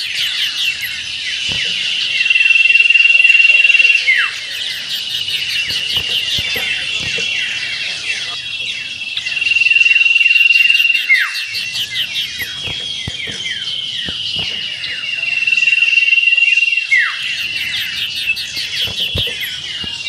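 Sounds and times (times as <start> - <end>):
bird trilling: 0.0 - 20.0
bird whistles and chips: 0.0 - 20.0.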